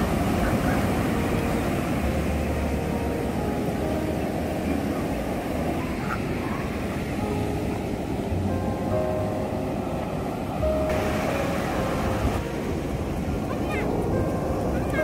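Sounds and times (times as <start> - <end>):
surf breaking on beach: 0.0 - 15.0.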